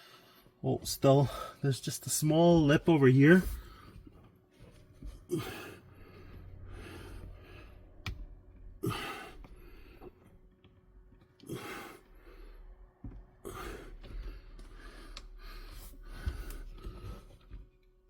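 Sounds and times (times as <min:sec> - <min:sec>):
man breathing heavily: 0:00.0 - 0:01.7, 0:02.4 - 0:17.7.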